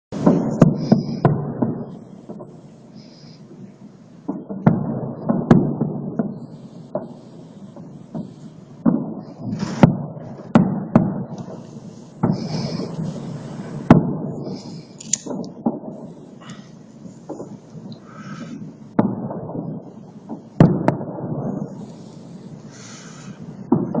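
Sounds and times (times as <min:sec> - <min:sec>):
fireworks bangs with rumbling echo: 0:00.1 - 0:24.0.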